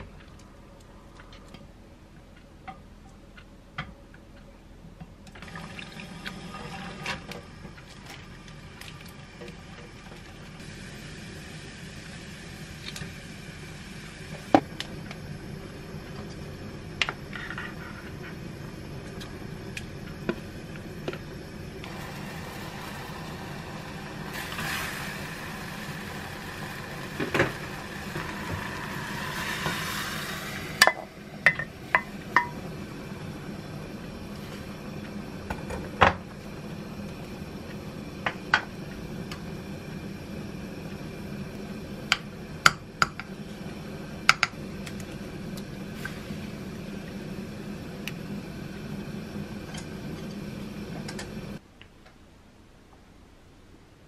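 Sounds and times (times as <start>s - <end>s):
steady low hum: 0.0s - 54.0s
hiss on stove: 8.2s - 51.6s.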